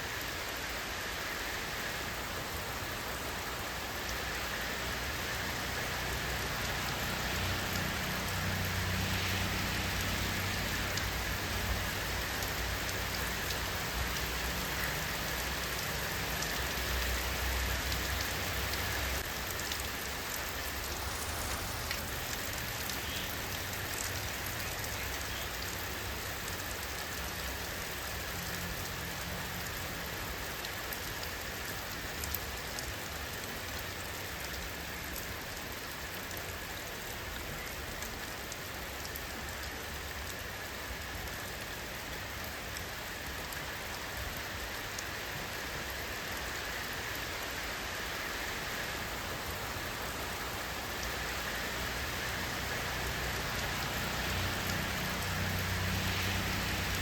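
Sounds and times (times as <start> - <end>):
steady rain hiss: 0.0 - 57.0
raindrops tapping a surface: 6.0 - 57.0.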